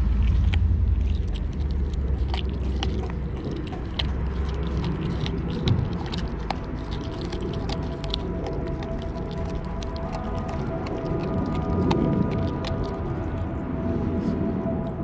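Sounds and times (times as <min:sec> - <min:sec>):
bones crunching: 0:00.0 - 0:13.2
puppy gnawing wet fish: 0:00.0 - 0:13.5
low rumble: 0:00.0 - 0:15.0.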